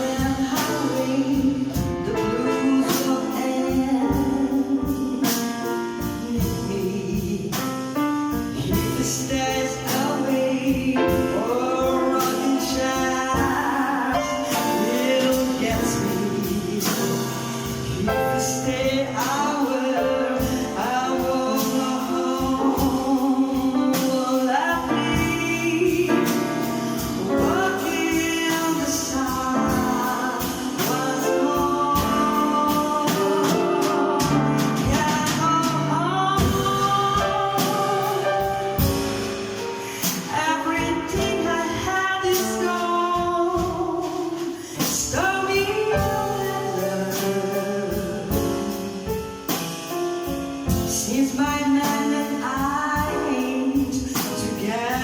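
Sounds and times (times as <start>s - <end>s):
person singing: 0.0s - 7.7s, 8.6s - 26.6s, 27.2s - 38.9s, 39.6s - 48.7s
instrumental accompaniment with beat: 0.0s - 55.0s.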